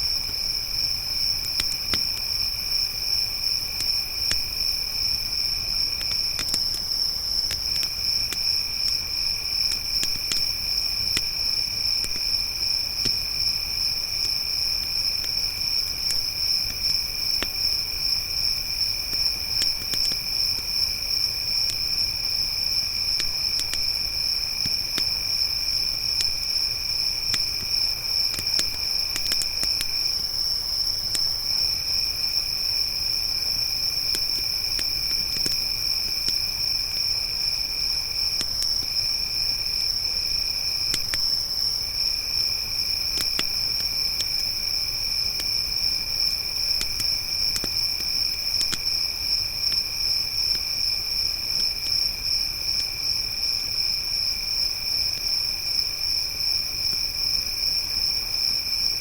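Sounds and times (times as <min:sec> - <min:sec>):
campfire pops and crackles: 0:00.1 - 0:53.0.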